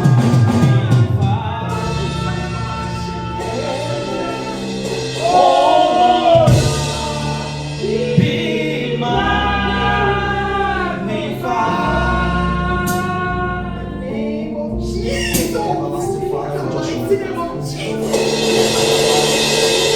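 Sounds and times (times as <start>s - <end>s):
instrumental backing: 0.0s - 19.9s
voices singing held notes: 0.0s - 19.9s.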